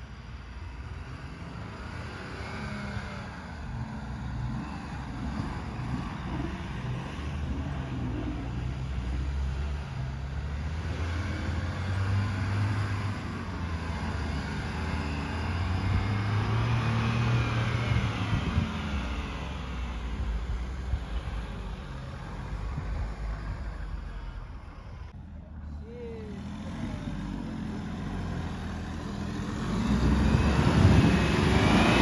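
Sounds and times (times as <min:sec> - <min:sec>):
car engines droning: 0:00.0 - 0:32.0.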